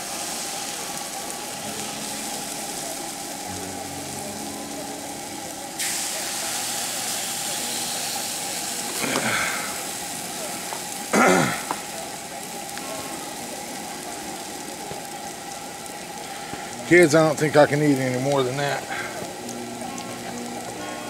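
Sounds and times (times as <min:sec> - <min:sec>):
pancake batter sizzling on griddle: 0:00.0 - 0:21.0.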